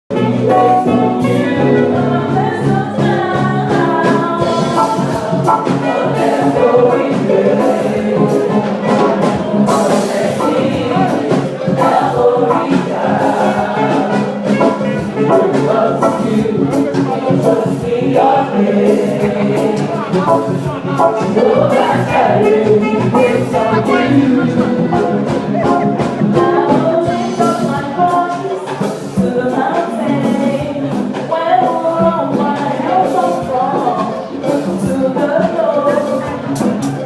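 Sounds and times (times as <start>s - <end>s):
instrumental accompaniment: 0.1s - 37.0s
choir singing an anthem: 0.2s - 37.0s.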